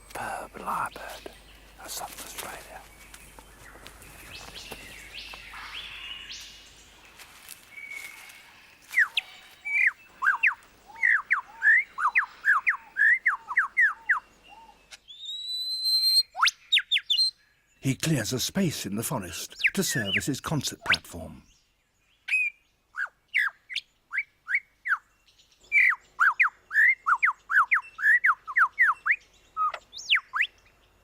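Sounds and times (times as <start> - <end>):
lyrebird singing: 0.0 - 21.6, 25.6 - 30.7
faint forest bird calls: 0.0 - 31.0.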